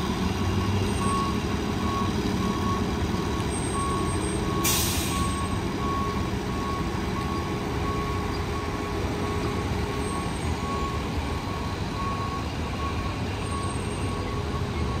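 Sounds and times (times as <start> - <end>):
reversing alarm beeping: 0.5 - 15.0.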